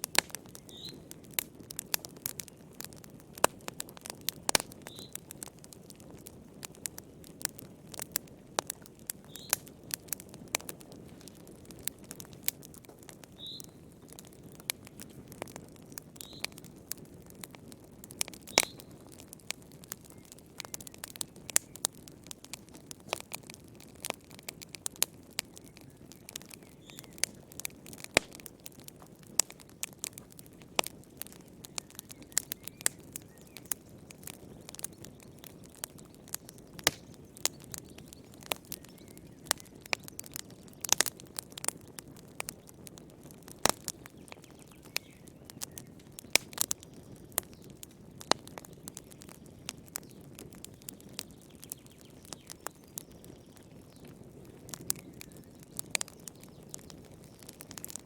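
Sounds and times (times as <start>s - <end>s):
fire crackles and pops: 0.0s - 58.0s
rush of flames: 0.0s - 58.0s.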